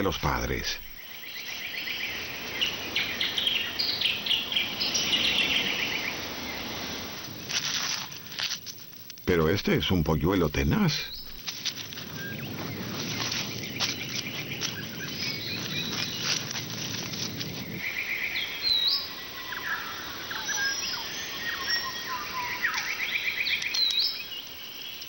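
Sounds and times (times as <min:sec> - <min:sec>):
birds chirping and trilling: 0:00.0 - 0:08.3, 0:09.3 - 0:25.0
scratching in soil and leaves: 0:00.0 - 0:25.0.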